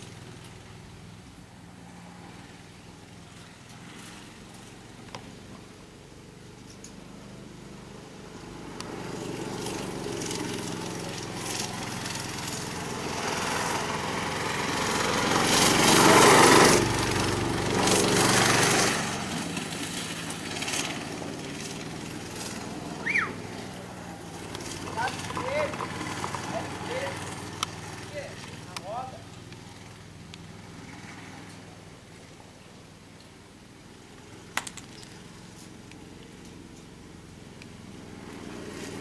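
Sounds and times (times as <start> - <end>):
racing kart engine passing: 0.0 - 32.4, 35.2 - 39.0.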